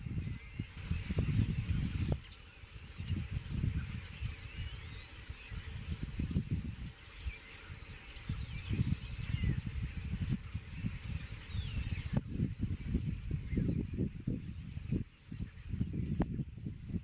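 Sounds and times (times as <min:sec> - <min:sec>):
starlings whistling and chattering: 0:00.0 - 0:17.0.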